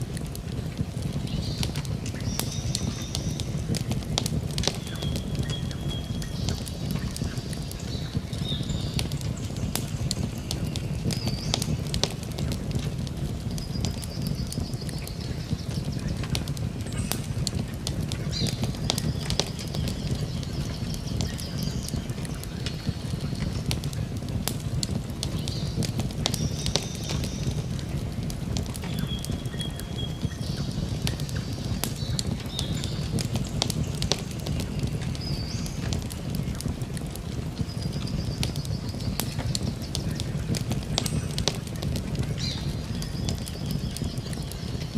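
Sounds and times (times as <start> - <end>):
campfire crackling: 0.0 - 44.9
high whistling notes from fire: 0.0 - 44.9.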